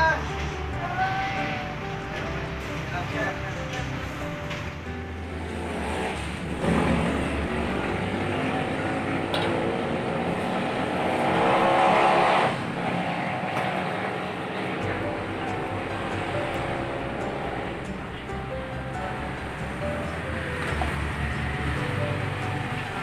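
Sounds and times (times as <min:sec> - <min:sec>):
vehicles passing by: 0:00.0 - 0:23.0.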